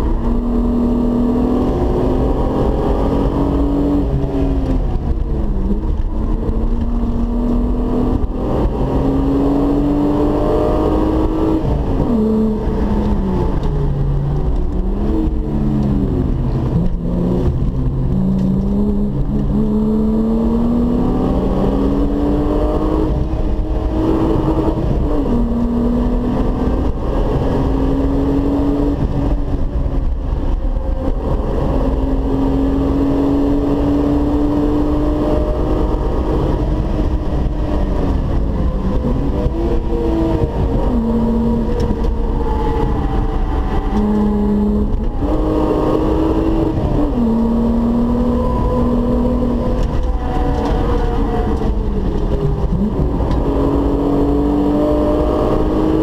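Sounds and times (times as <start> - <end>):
car engine accelerating: 0.0 - 56.0
road and wind noise: 0.0 - 56.0.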